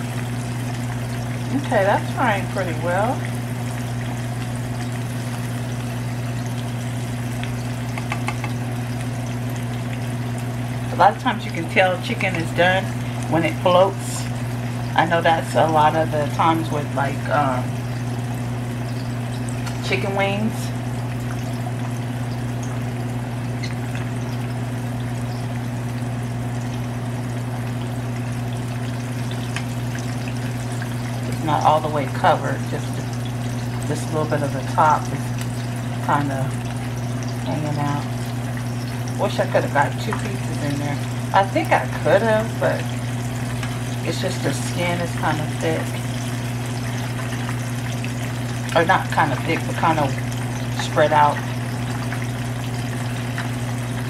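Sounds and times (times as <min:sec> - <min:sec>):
chicken sizzling in oil: 0:00.0 - 0:54.0
oil popping and crackling: 0:00.0 - 0:54.0.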